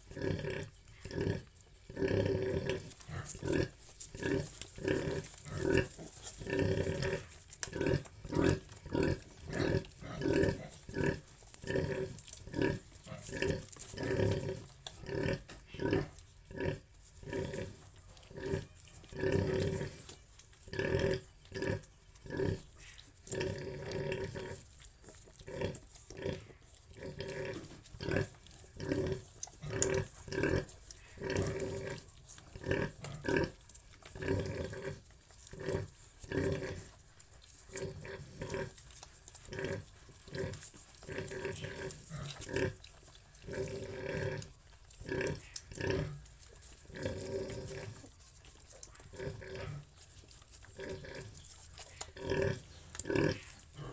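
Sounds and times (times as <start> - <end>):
pig grunting: 0.0 - 20.1, 20.7 - 24.7, 25.4 - 37.0, 37.7 - 42.8, 43.4 - 48.1, 49.0 - 50.0, 52.0 - 53.9.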